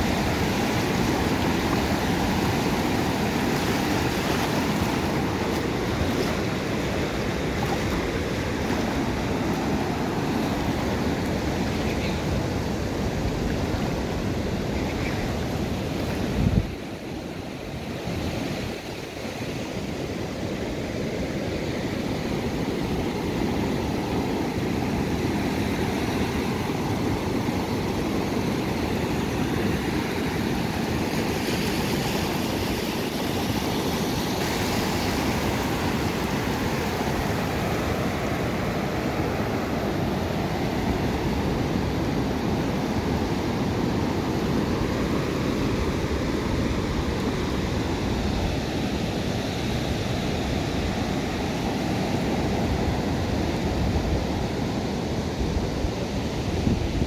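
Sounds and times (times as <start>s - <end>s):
small waves washing: 0.0s - 56.6s
wind rumble on microphone: 0.0s - 57.0s.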